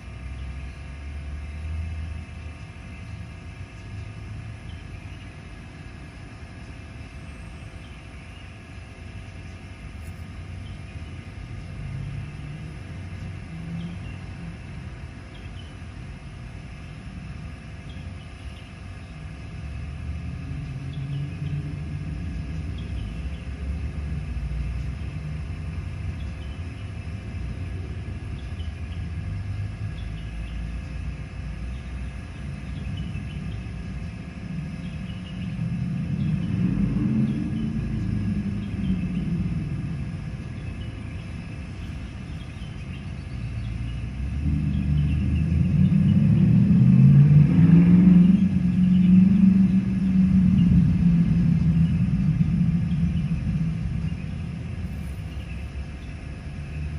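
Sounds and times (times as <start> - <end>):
faint steady hum: 0.0 - 56.9
low outdoor rumble: 0.0 - 56.9.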